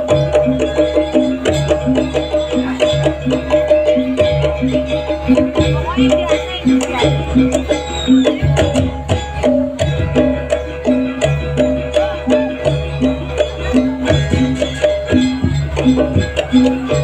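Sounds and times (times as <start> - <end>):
gamelan metal strikes: 0.0 - 17.0.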